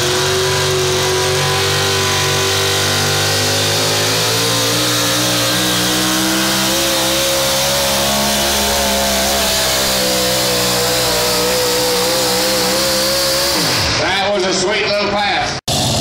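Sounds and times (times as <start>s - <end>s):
truck engine at high revs: 0.0s - 14.4s, 15.7s - 16.0s.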